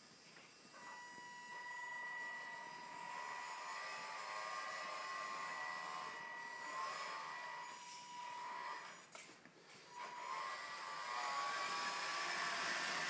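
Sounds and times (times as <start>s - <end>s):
toy truck motor whining: 0.0s - 9.2s, 9.8s - 13.0s.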